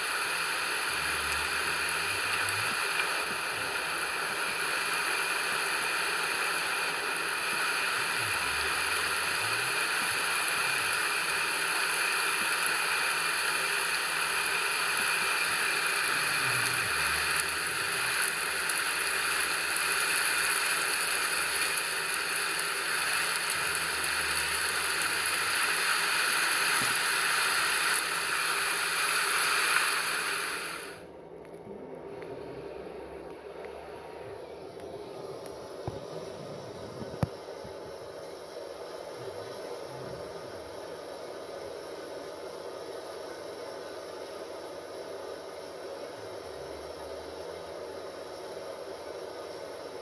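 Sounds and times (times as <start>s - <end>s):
steady rain: 0.0s - 31.6s, 34.8s - 50.0s.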